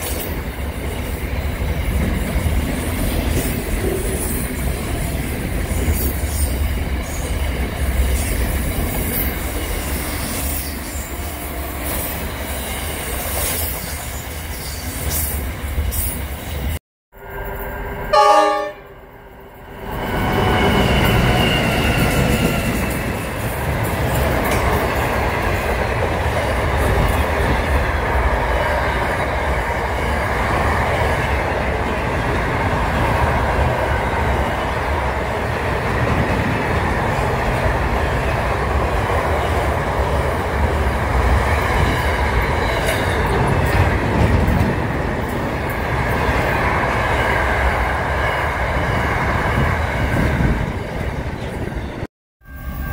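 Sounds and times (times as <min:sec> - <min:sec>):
freight train passing: 0:00.0 - 0:52.9.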